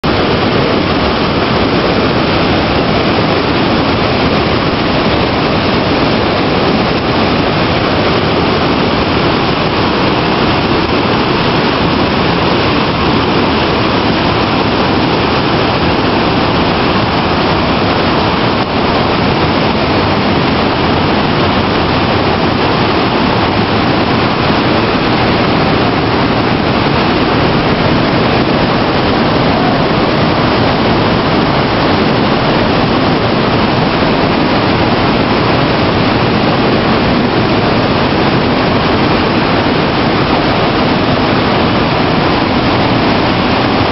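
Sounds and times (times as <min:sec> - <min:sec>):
river rushing over boulders: 0:00.0 - 0:43.9.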